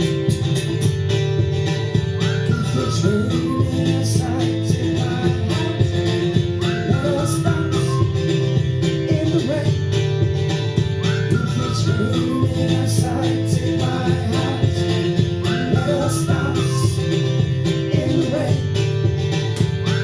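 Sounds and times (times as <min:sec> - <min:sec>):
live pop-rock band: 0:00.0 - 0:20.0.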